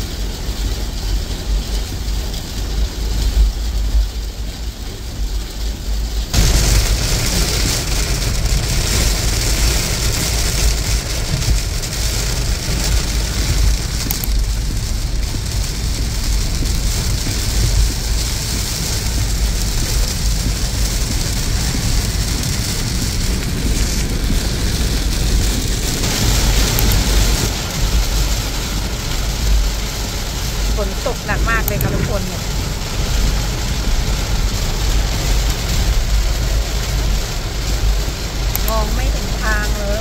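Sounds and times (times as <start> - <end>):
heavy rain on car roof: 0.0 - 40.0
low road rumble: 0.0 - 40.0.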